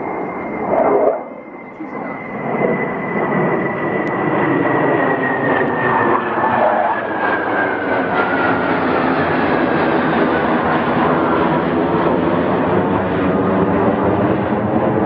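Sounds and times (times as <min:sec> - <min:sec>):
fighter jets flying overhead: 0:00.0 - 0:15.0
high turbine whine: 0:00.0 - 0:15.0.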